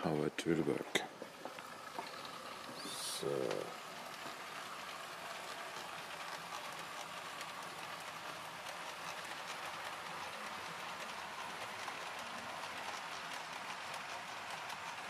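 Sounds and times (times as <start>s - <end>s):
model train whirring: 0.0s - 15.0s
wheels clicking on rails: 0.0s - 15.0s.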